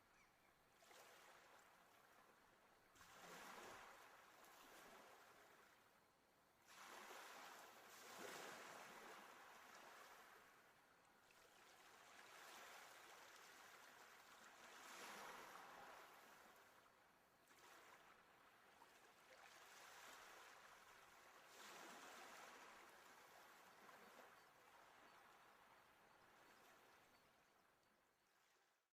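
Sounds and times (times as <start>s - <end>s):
faint sea waves washing ashore: 0.8s - 27.8s.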